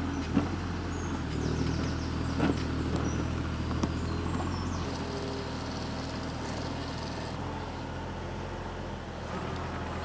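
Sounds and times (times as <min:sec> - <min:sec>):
diesel excavator engine running: 0:00.0 - 0:10.0.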